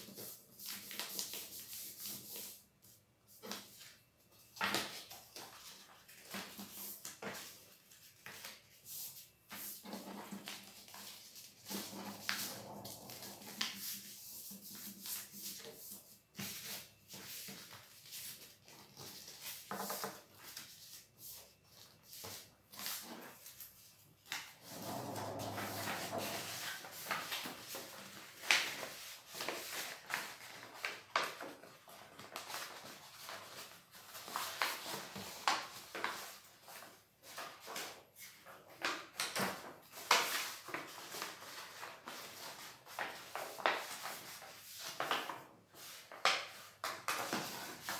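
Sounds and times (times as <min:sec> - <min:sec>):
paper rustling and crackling: 0:03.4 - 0:47.9.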